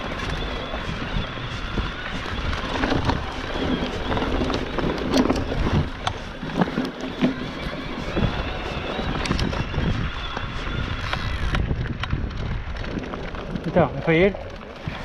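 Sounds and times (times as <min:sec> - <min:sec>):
bike rattling over bumps: 0:00.0 - 0:15.0
tyres rolling on dirt: 0:00.0 - 0:15.0
wind on microphone: 0:00.0 - 0:15.0.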